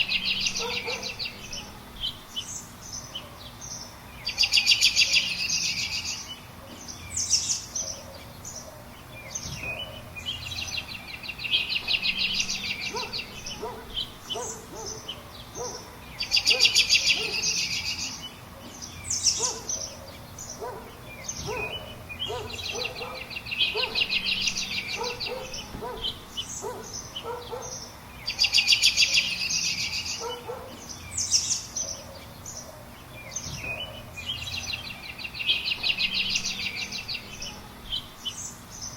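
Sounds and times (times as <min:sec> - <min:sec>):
lower repeated bird notes: 0:00.0 - 0:38.9.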